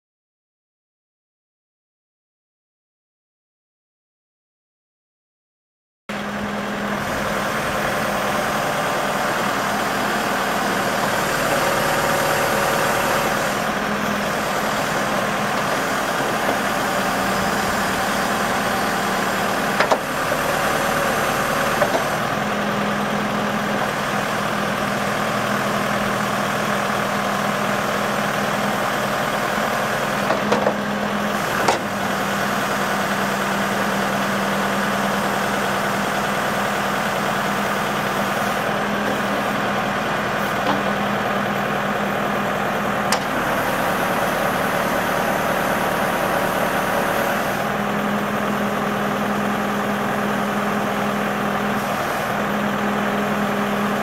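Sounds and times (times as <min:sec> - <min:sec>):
diesel engine running: 0:06.1 - 0:54.0.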